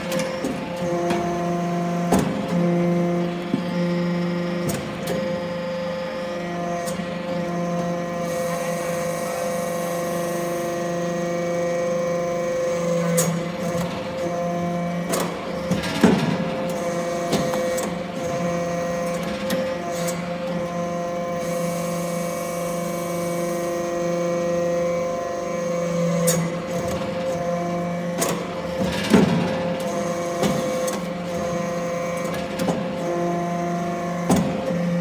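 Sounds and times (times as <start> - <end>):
hydraulic unit hum and whine: 0.0 - 35.0.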